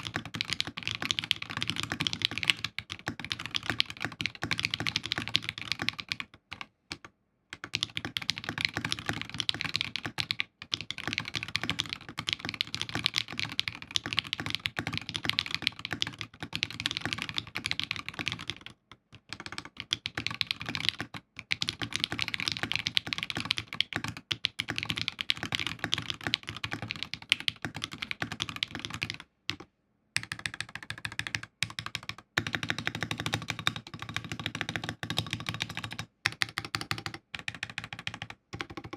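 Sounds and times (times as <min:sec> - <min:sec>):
fast typing on mechanical keyboard: 0:00.0 - 0:29.6, 0:30.2 - 0:38.9.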